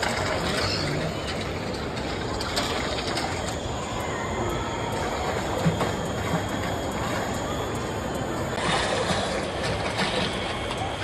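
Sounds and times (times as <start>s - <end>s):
shopping mall background rumble: 0.0s - 11.0s.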